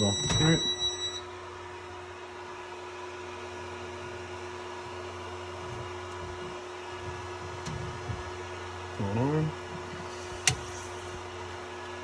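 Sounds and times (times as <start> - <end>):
printer hum and fan noise: 0.0 - 12.0.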